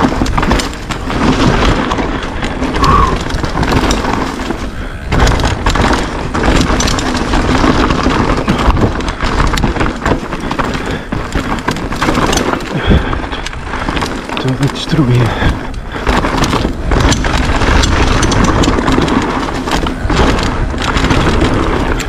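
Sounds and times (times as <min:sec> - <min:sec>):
bike tyres rolling: 0:00.0 - 0:22.0
wind rumble: 0:00.0 - 0:22.0.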